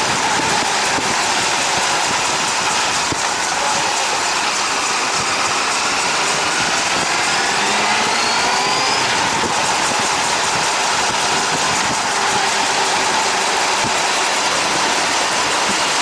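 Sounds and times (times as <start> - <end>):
motorcycle engine: 0.0 - 16.0
road noise: 0.0 - 16.0
wind noise: 0.0 - 16.0.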